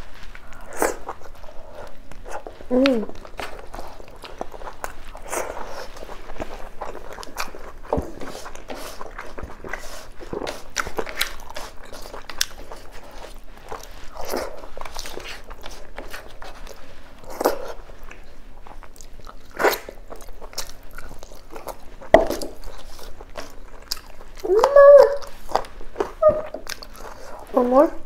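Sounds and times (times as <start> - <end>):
wet chewing: 0.0 - 27.9.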